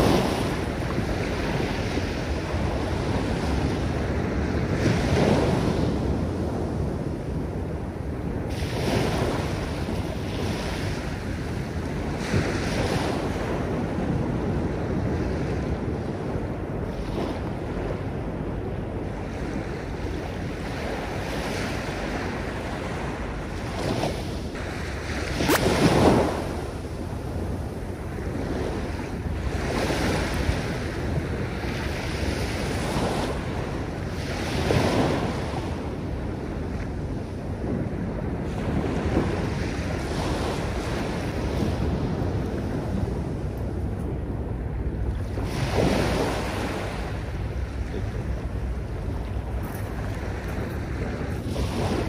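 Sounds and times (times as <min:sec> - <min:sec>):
sea waves washing on beach: 0:00.0 - 0:52.0.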